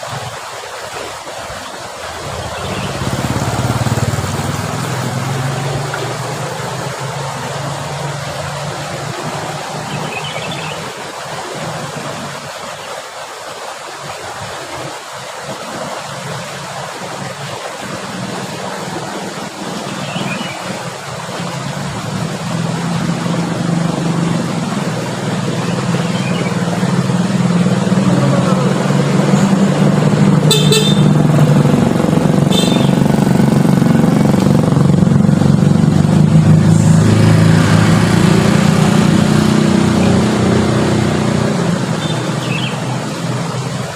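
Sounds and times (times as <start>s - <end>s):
vehicle engine humming: 2.0s - 12.6s, 16.7s - 43.9s.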